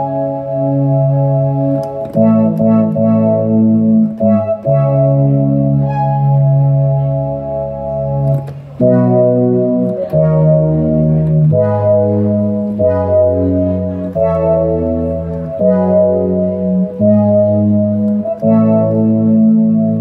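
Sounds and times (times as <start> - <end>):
keyboard chords wind-instrument voice: 0.0 - 20.0.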